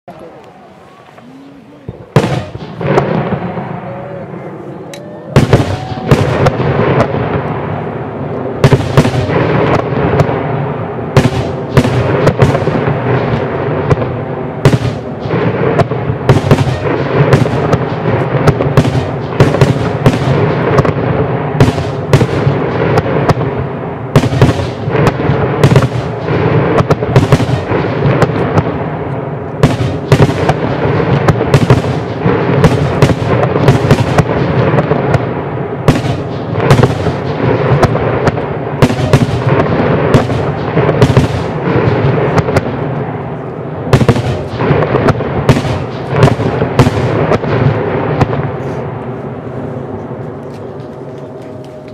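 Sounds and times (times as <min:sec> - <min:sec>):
continuous rumble: 0:00.1 - 0:51.9
fireworks bangs: 0:00.1 - 0:51.9.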